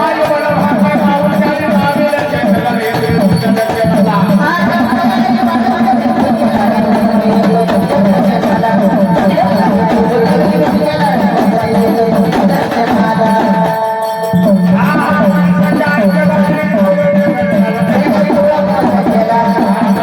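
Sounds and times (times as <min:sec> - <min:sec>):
hand drumming: 0:00.0 - 0:20.0
instrumental accompaniment: 0:00.0 - 0:20.0
person singing: 0:00.0 - 0:20.0.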